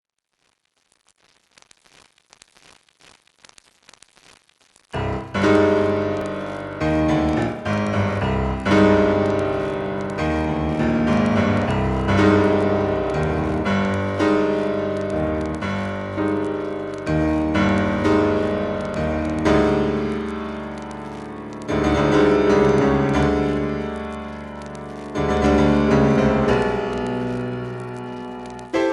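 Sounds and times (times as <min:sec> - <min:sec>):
piano chords ringing: 0:05.0 - 0:28.9.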